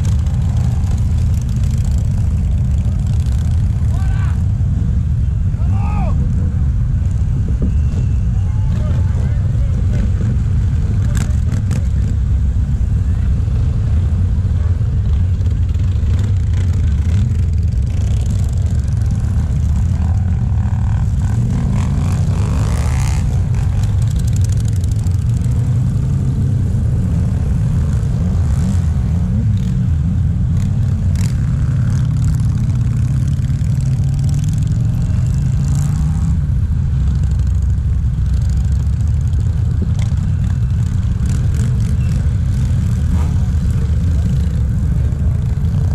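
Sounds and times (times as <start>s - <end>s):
motorcycles revving: 0.0s - 45.9s
motorcycles riding past: 0.0s - 45.9s.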